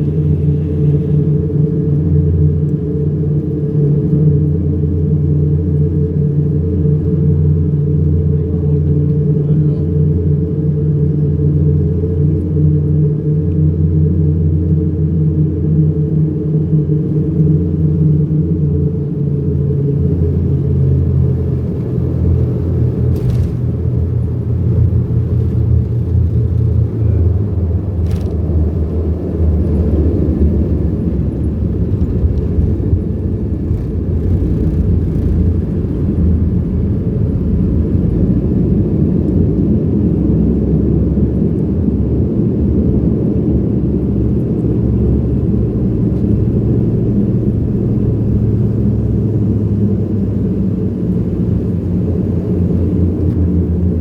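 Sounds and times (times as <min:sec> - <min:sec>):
turboprop engine cabin drone: 0:00.0 - 0:54.0.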